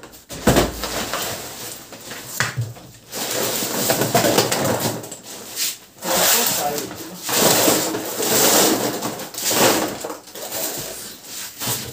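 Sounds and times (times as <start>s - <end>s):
boxes tumbling onto concrete floor: 0.0s - 5.3s, 6.0s - 11.9s
plastic sack rustling: 0.2s - 11.9s.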